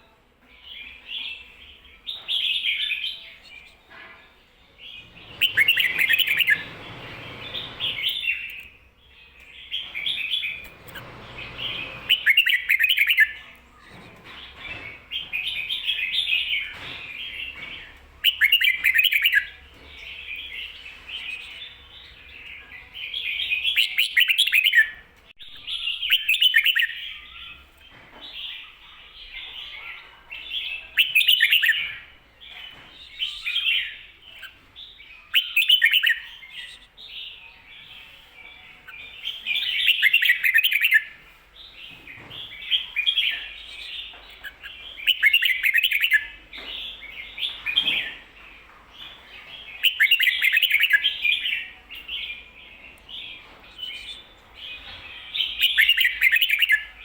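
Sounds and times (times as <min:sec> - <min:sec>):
soft bird chatter: 0:00.0 - 0:57.0.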